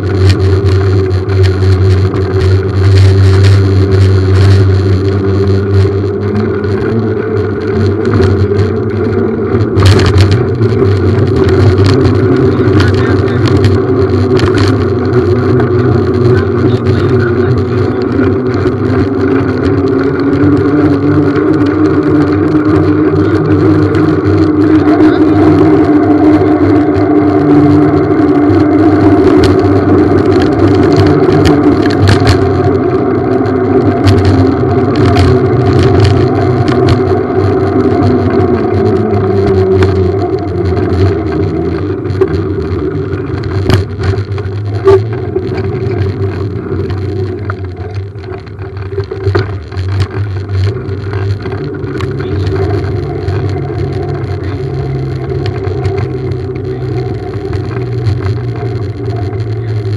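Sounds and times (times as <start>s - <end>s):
small vehicle rolling over asphalt: 0.0s - 59.9s.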